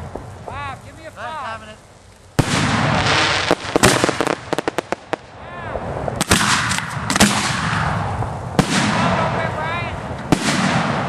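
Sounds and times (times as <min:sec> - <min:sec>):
crackling hiss: 0:00.0 - 0:11.0
fireworks bangs: 0:00.0 - 0:11.0.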